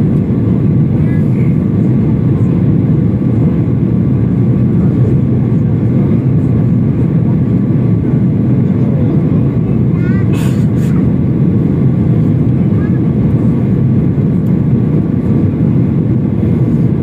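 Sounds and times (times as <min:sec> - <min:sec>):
jet airliner cabin rumble: 0:00.0 - 0:17.0.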